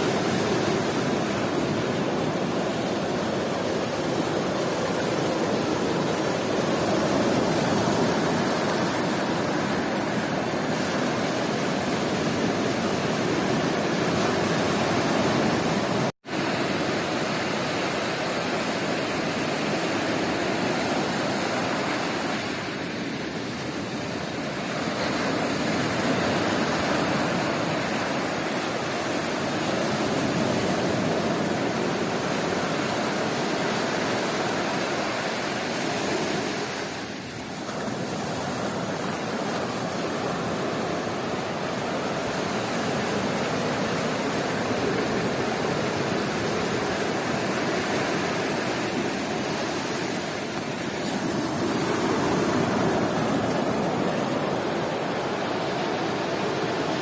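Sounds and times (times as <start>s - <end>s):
sea surf breaking on beach: 0.0s - 57.0s.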